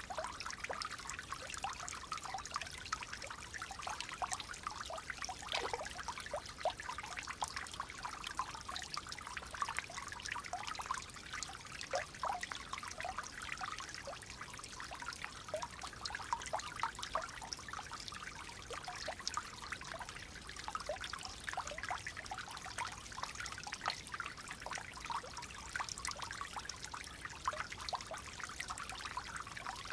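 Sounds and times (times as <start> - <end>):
water flowing and trickling: 0.0 - 29.9.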